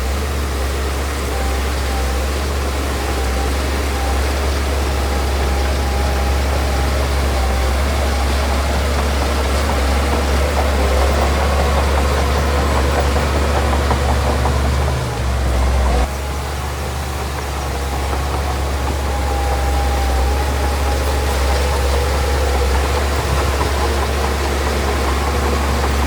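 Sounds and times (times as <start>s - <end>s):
heavy diesel engine droning: 0.0s - 26.0s.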